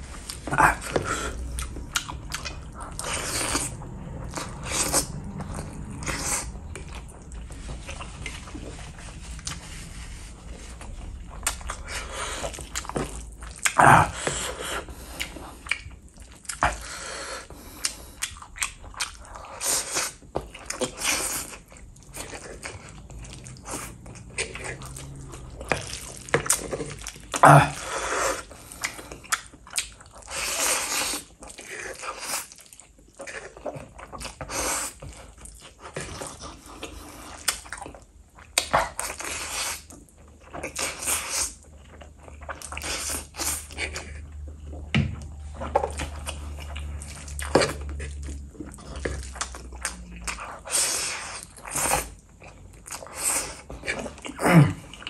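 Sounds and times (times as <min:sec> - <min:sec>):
wet chewing: 0:00.0 - 0:55.0.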